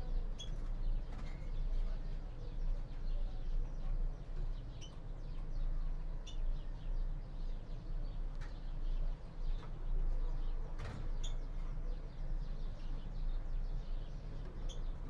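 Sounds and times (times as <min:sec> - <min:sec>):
finches chirping: 0:00.0 - 0:15.0
low background hum: 0:00.0 - 0:15.0.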